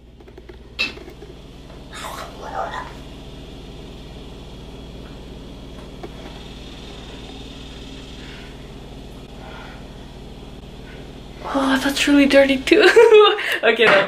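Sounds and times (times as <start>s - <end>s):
faint high whine: 0.0s - 13.6s
steady low hum: 0.0s - 14.0s.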